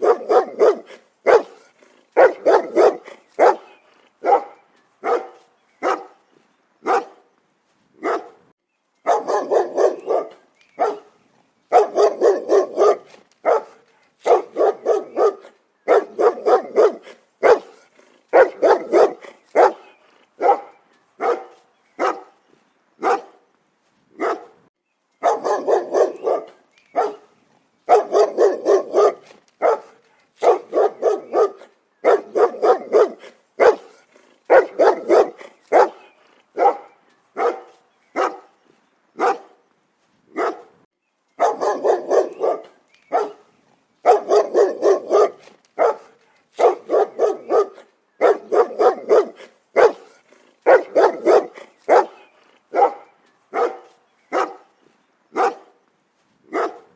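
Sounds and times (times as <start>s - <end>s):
dog barking: 0.0s - 6.2s, 6.8s - 7.2s, 8.0s - 8.4s, 9.0s - 22.4s, 23.0s - 23.4s, 24.2s - 24.6s, 25.2s - 27.3s, 27.9s - 38.6s, 39.2s - 39.6s, 40.3s - 40.8s, 41.4s - 54.7s, 55.3s - 55.8s, 56.5s - 56.9s.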